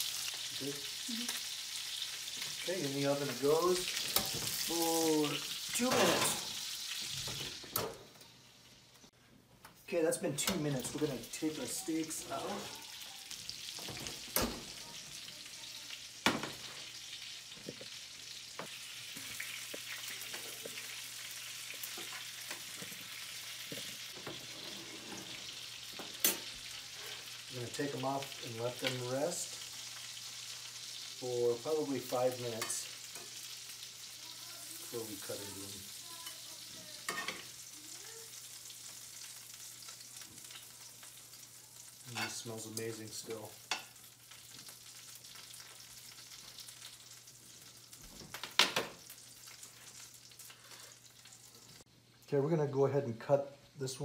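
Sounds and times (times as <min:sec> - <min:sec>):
steaks sizzling in a pan: 0:00.0 - 0:08.9, 0:10.6 - 0:51.8.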